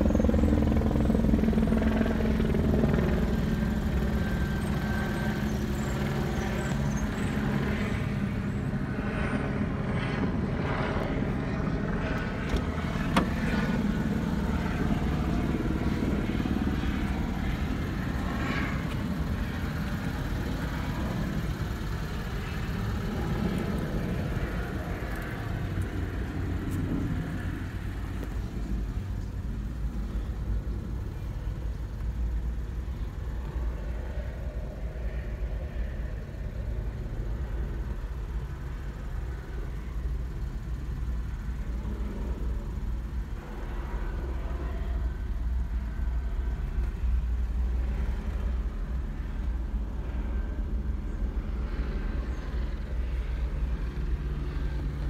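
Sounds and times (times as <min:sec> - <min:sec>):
car engine idling: 0:00.0 - 0:08.6, 0:12.2 - 0:55.0.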